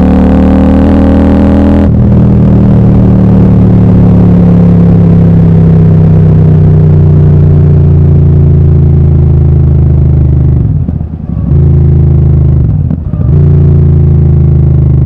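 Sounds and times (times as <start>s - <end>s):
motorcycle engine loud exhaust: 0.0s - 15.0s.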